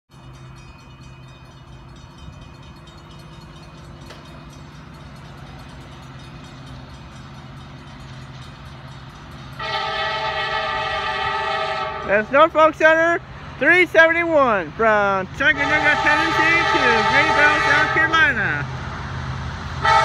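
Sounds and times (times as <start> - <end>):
diesel locomotive engine drone: 0.1 - 20.0.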